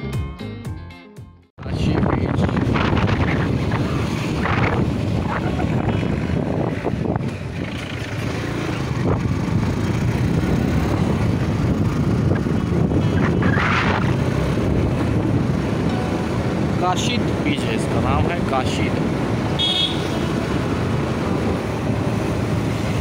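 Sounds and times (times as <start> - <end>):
wind rumbling on microphone: 1.6 - 23.0
slow-moving vehicle running: 2.5 - 23.0.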